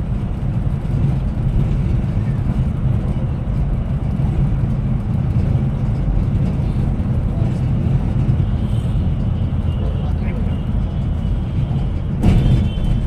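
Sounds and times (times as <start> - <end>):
moving coach engine rumble: 0.0 - 13.0.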